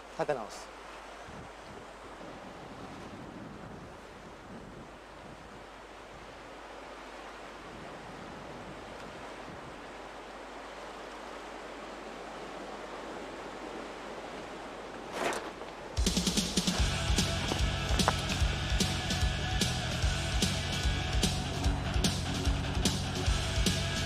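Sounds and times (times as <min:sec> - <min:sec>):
sea surf rushing: 0:00.0 - 0:24.0
wind: 0:00.0 - 0:24.0.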